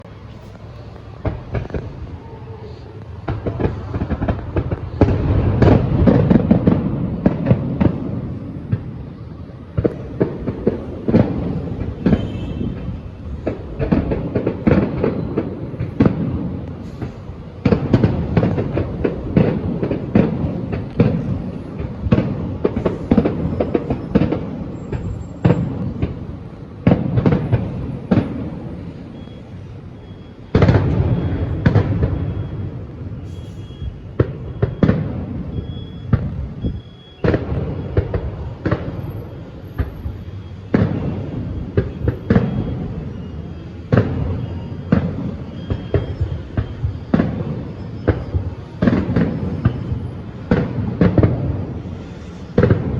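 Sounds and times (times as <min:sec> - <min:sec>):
fireworks bangs and crackles: 0:00.0 - 0:52.9.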